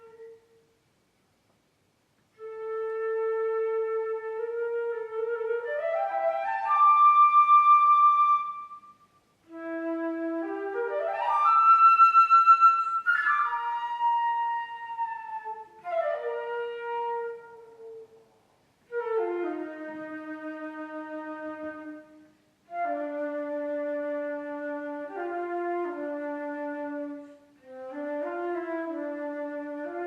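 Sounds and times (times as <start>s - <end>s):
solo flute playing: 0.0s - 0.8s, 2.3s - 30.0s.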